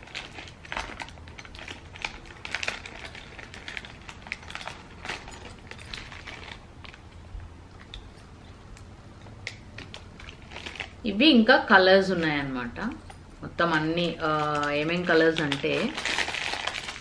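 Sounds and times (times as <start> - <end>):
plastic packing rustling: 0.0 - 7.3, 9.6 - 17.0.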